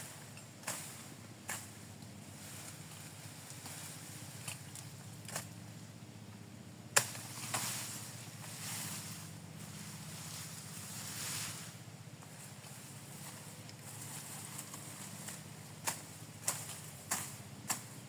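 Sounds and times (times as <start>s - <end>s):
sickle cutting grass: 0.0s - 5.6s, 6.9s - 18.0s.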